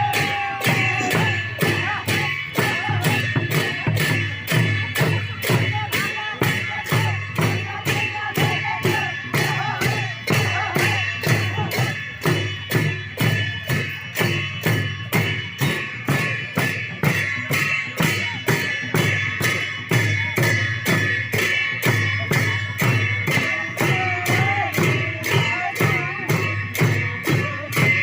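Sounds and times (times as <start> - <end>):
cymbals ringing: 0.0 - 28.0
drum beat: 0.0 - 28.0.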